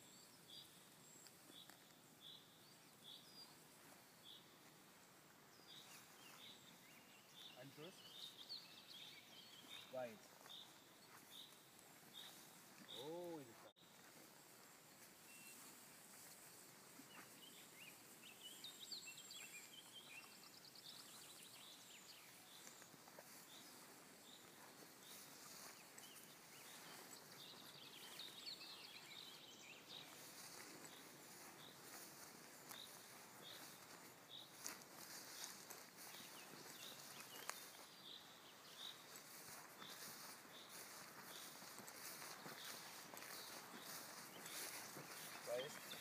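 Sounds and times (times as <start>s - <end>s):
faint birdsong: 0.0s - 46.0s
footsteps rustling in grass: 3.0s - 46.0s.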